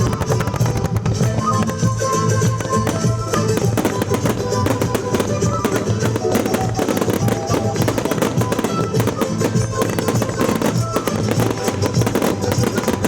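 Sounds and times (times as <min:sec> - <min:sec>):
fireworks bursting and crackling: 0:00.0 - 0:13.0
music over loudspeakers: 0:00.0 - 0:13.0.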